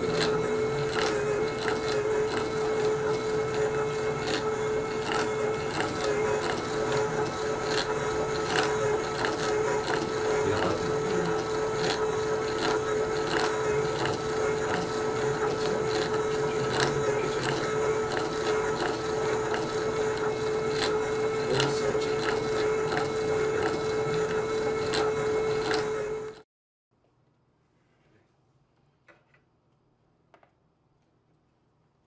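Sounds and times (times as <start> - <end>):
device motor humming: 0.0 - 26.4.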